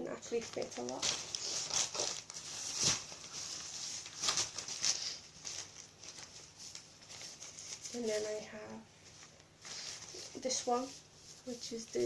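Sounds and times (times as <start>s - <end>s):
fabric bags rustling: 0.3s - 12.0s.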